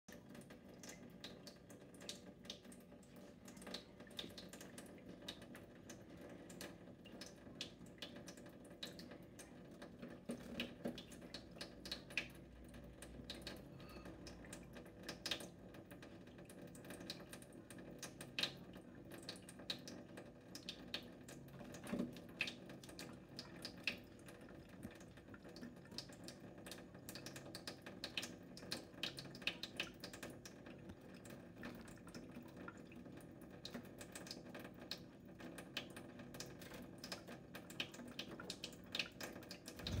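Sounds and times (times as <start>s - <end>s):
tap water trickling on metal: 0.1s - 40.0s
water drips and splashes: 0.1s - 40.0s.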